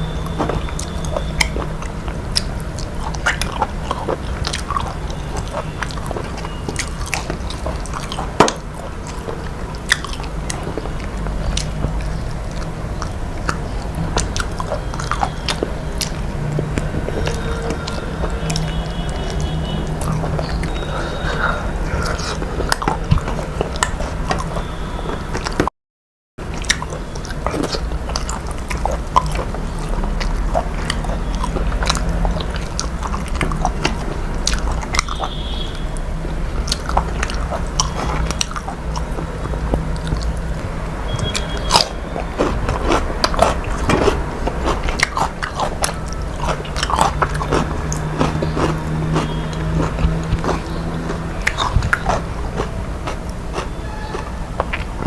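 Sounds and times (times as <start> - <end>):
mouth clicks and smacks: 0.0 - 25.7, 26.4 - 55.0
person chewing food: 0.0 - 25.7, 26.4 - 55.0.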